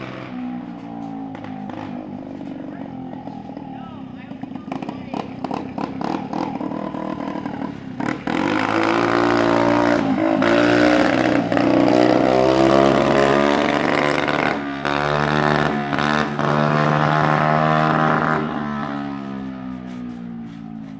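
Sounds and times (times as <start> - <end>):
pit bike engine revving: 0.0 - 20.9.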